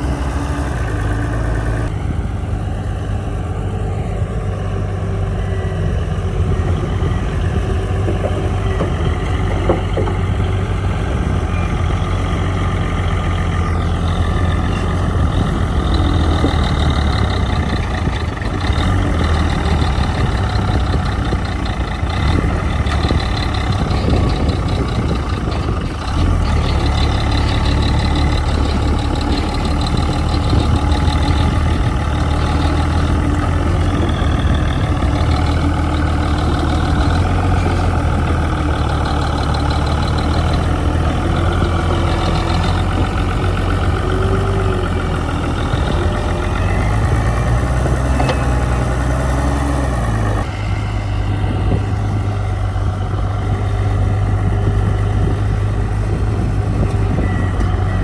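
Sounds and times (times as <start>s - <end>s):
heavy diesel engine running: 0.0s - 58.0s
high whining tones: 0.0s - 58.0s.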